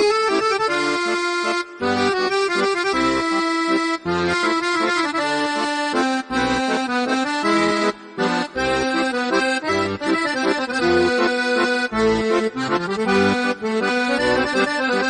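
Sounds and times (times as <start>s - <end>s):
instrumental music with pulsing bass: 0.0s - 15.0s.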